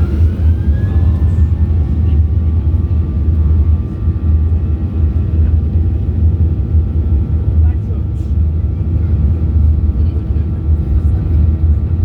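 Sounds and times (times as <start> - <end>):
jet engines deep rumble: 0.0 - 12.0.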